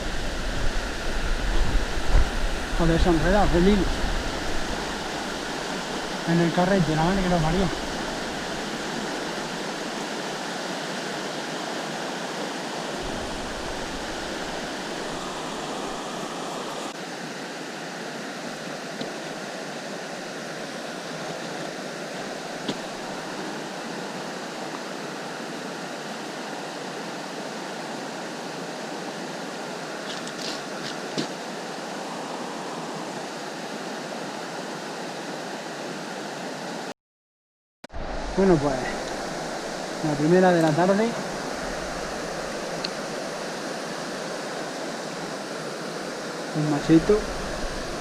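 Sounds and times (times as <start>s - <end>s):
river water rushing: 0.0s - 36.9s, 37.9s - 48.0s.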